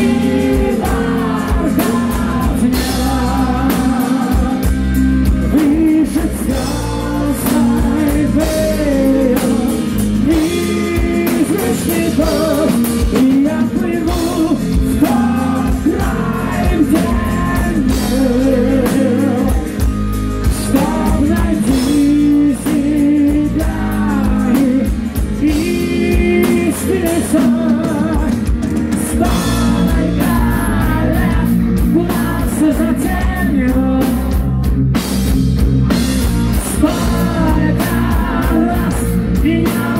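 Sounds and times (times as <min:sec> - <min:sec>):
man singing into a microphone: 0:00.0 - 0:34.8, 0:36.5 - 0:39.9
heavy metal band playing: 0:00.0 - 0:39.9.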